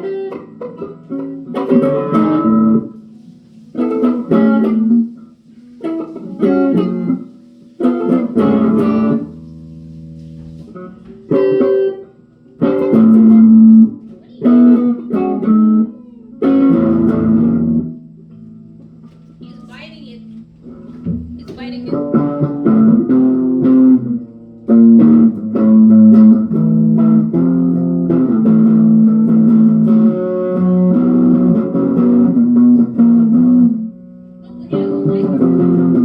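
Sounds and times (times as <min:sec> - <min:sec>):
guitar chords strummed: 0:00.0 - 0:36.0.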